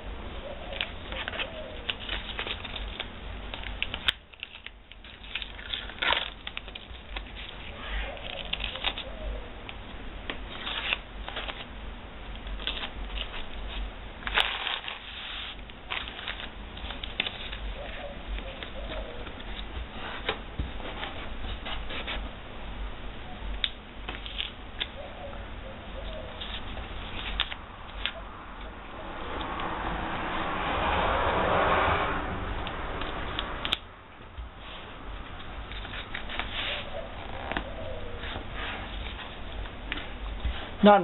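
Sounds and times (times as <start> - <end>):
hands crinkling tape and paper: 0.7 - 22.3, 23.5 - 25.0, 26.3 - 28.8, 32.6 - 41.0.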